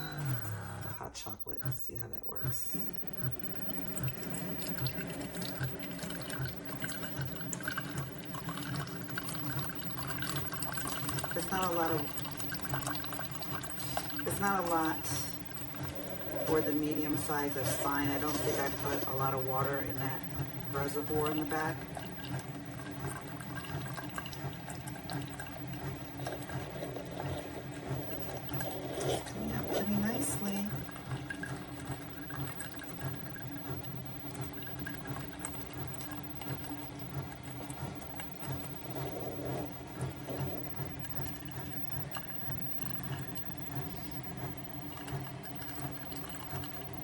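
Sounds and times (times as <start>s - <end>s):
coffee maker pump pulsing: 0.0s - 47.0s
liquid trickling into mug: 0.0s - 47.0s.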